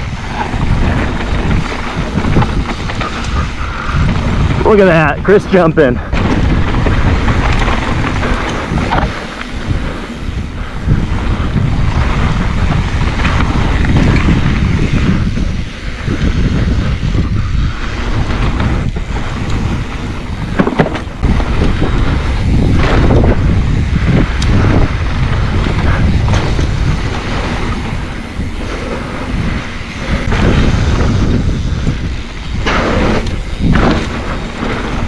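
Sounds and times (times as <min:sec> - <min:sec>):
bike rattling: 0:00.0 - 0:35.0
tyres rumbling on dirt: 0:00.0 - 0:35.0
wind buffeting microphone: 0:00.0 - 0:35.0.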